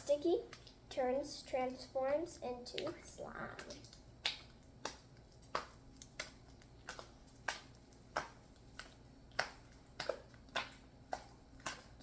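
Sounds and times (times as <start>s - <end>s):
slime kneaded by hand: 0.0s - 12.0s.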